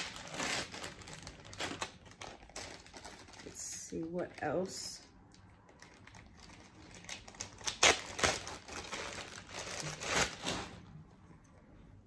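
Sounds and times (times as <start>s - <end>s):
packaging rustling and crackling: 0.0s - 10.9s.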